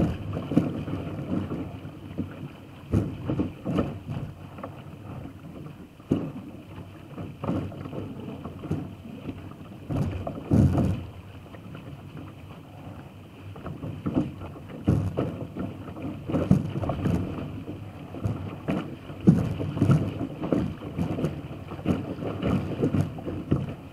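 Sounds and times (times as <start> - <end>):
water splashing against boat hull: 0.0 - 23.9.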